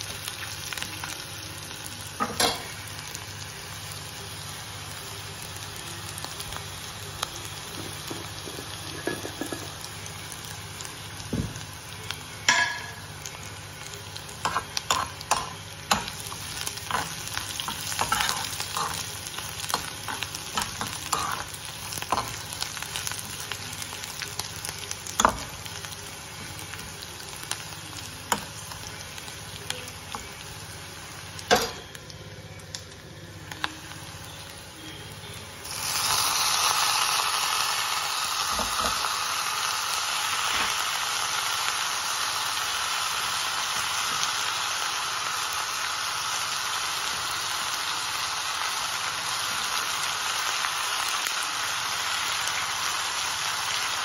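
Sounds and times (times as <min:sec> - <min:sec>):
greens sizzling in hot pan: 0:00.0 - 0:54.0
spices frying in a pan: 0:00.0 - 0:54.0.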